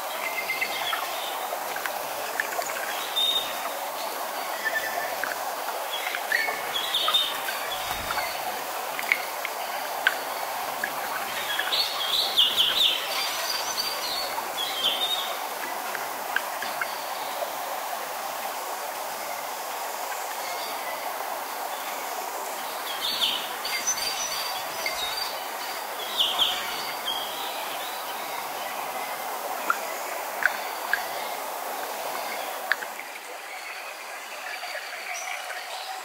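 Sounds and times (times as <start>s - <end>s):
songbirds chirping: 0.0s - 19.5s, 20.3s - 36.0s
waterfall rushing: 0.0s - 36.0s
wind through trees: 0.0s - 36.0s.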